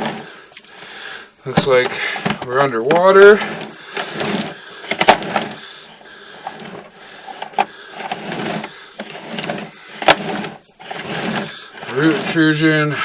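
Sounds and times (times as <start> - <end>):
push cable rattling: 1.5 - 12.8.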